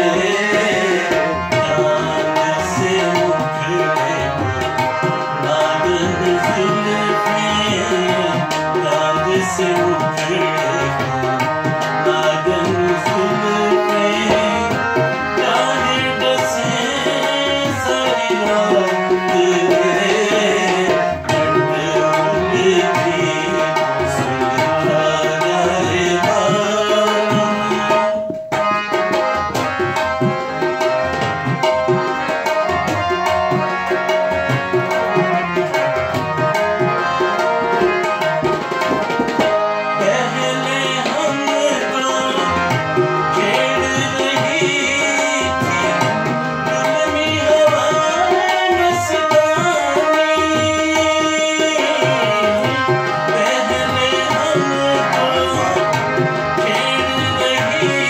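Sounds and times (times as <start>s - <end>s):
harmonium chords: 0.0s - 58.0s
man singing: 0.0s - 58.0s
tabla: 0.0s - 58.0s.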